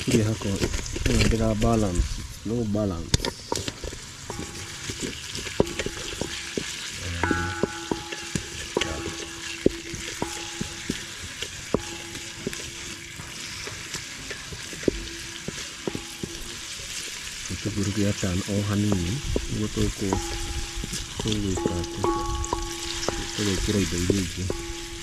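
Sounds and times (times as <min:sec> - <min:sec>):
onions sizzling in a pot: 0:00.0 - 0:25.0
wooden spoon scraping metal pot: 0:00.0 - 0:25.0.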